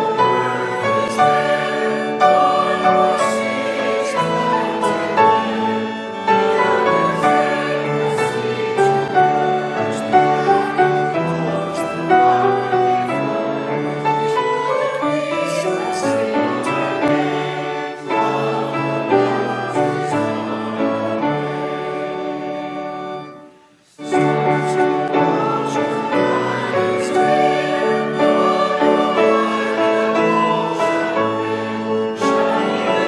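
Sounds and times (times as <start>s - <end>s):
choir singing held notes: 0.0s - 33.0s.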